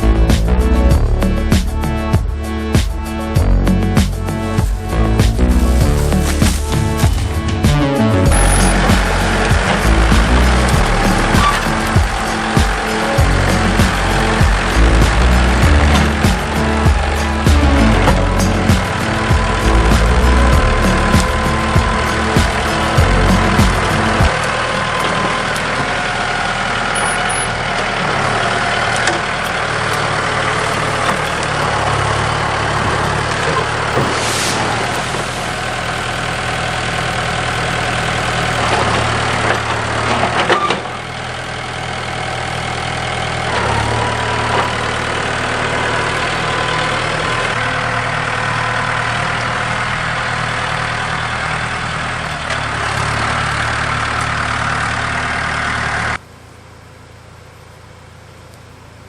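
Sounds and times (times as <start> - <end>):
backhoe engine running: 0.0 - 59.0.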